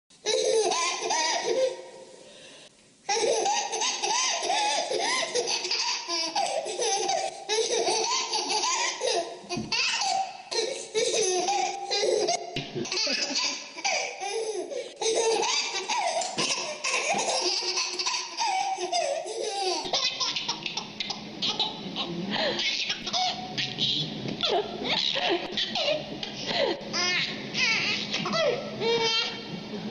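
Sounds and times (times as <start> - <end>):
baby laughing: 0.2 - 1.8, 3.1 - 23.8, 24.4 - 29.5.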